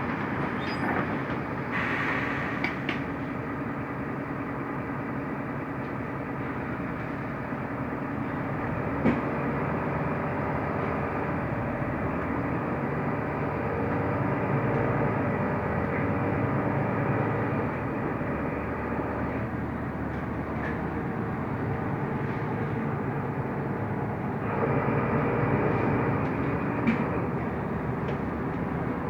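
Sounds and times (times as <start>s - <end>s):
bus engine hum: 0.0s - 29.0s.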